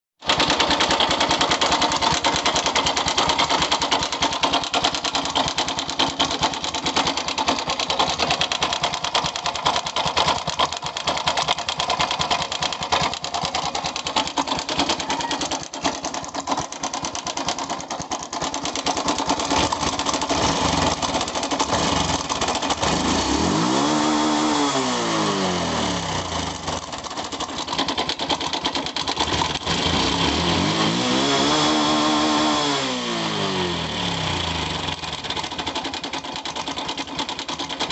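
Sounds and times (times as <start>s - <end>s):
motorcycle engine running rattly: 0.2s - 37.9s.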